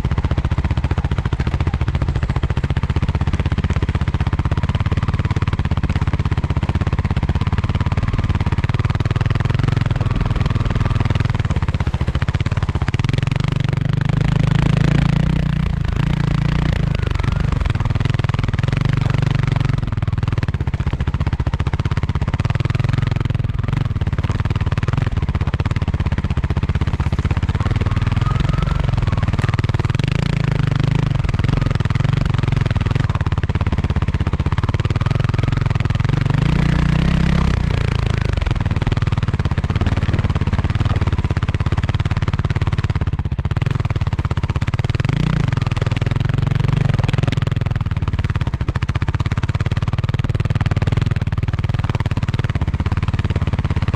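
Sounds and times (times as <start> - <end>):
dirt bike engine running: 0.0 - 53.9.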